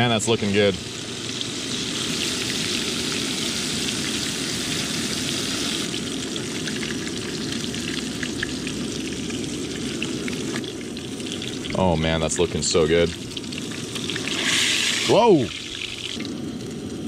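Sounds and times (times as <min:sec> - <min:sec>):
fish frying in oil: 0:00.0 - 0:17.0.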